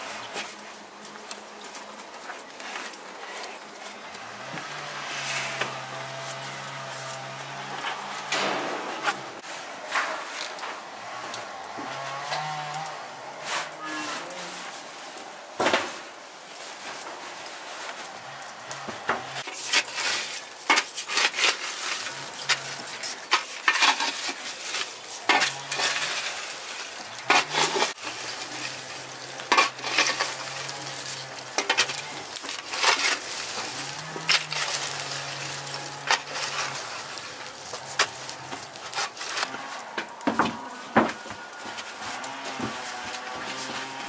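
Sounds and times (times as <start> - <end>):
coals crackling: 0.0 - 44.0
embers scraping and knocking: 0.0 - 44.0.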